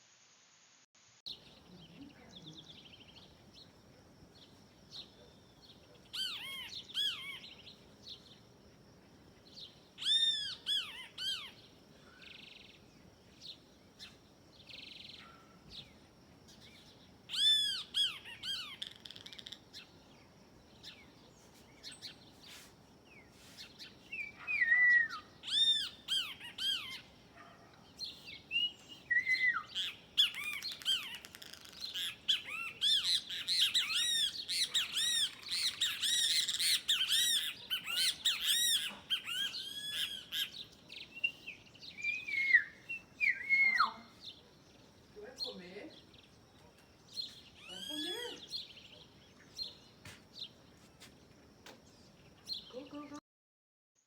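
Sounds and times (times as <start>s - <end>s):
birds calling: 1.3s - 8.4s, 9.4s - 53.1s.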